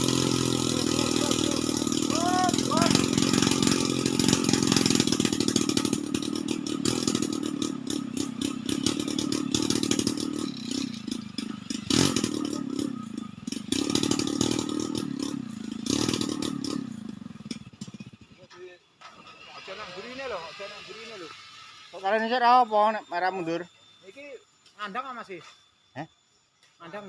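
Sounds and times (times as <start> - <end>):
engine running: 0.0 - 25.1.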